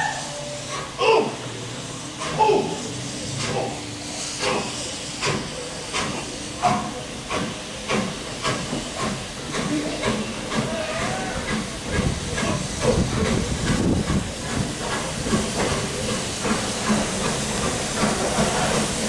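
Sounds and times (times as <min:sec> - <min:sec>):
steam hissing: 0:00.0 - 0:19.0
steam locomotive chuffing: 0:00.0 - 0:19.0.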